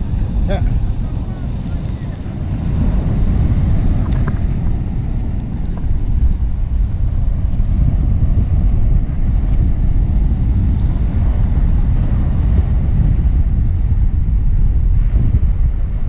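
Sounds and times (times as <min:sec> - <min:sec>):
breaking surf: 0:00.0 - 0:16.0
wind buffeting microphone: 0:00.0 - 0:16.0.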